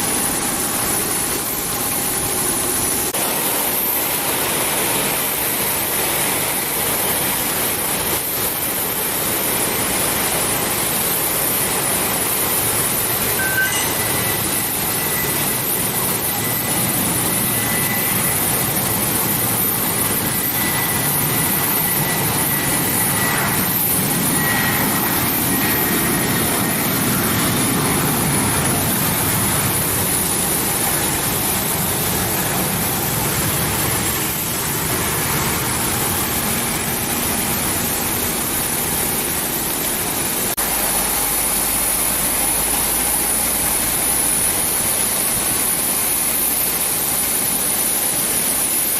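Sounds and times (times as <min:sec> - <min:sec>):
high engine whine: 0:00.0 - 0:48.8
jet engines running: 0:00.0 - 0:48.9.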